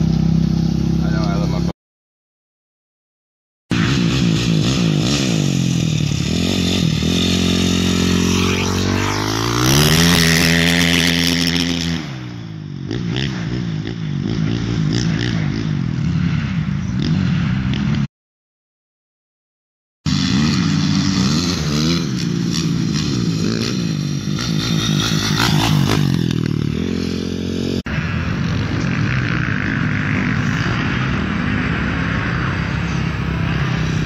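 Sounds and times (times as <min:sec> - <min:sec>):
motocross bike engine revving: 0:03.7 - 0:18.1, 0:20.1 - 0:34.0.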